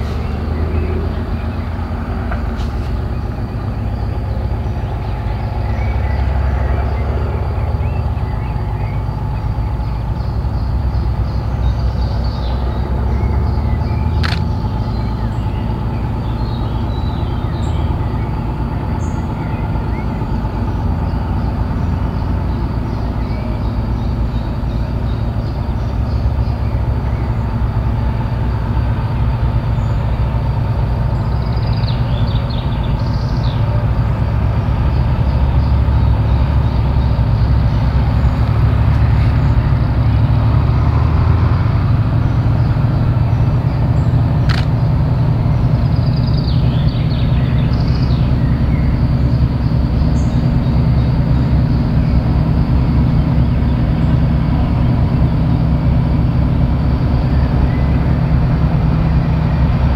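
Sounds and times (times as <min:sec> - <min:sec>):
locomotive diesel engine rumbling: 0:00.0 - 0:59.9.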